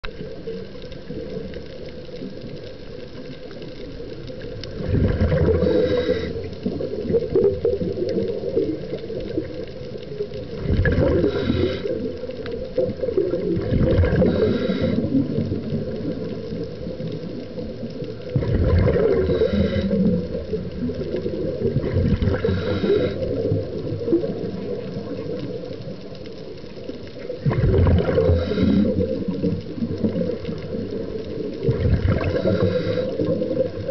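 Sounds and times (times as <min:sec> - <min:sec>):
exhaled bubbles gurgling underwater: 0:00.0 - 0:33.9
steady watery hiss: 0:00.0 - 0:33.9.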